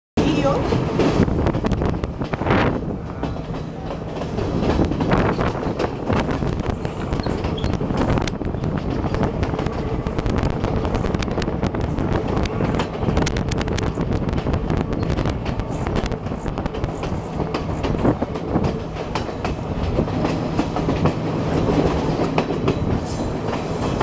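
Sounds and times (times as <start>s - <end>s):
train running gear rumble: 0.2s - 24.0s.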